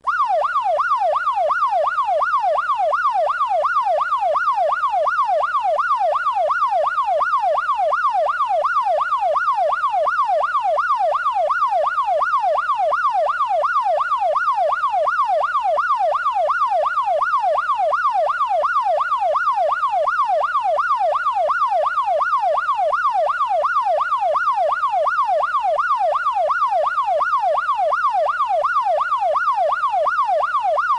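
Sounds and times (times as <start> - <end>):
police siren yelp: 0.0 - 30.9.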